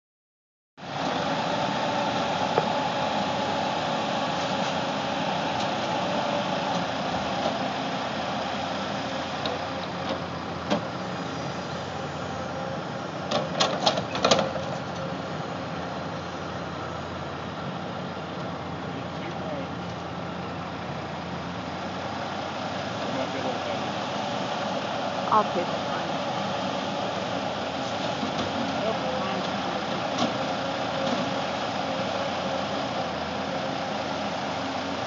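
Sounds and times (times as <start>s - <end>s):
diesel engine running: 0.8s - 35.0s.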